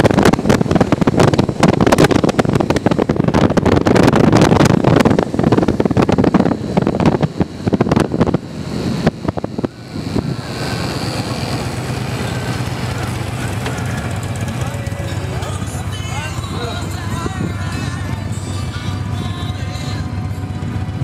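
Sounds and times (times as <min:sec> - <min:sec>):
low engine hum: 0:00.0 - 0:21.0
wind buffeting microphone: 0:00.0 - 0:21.0.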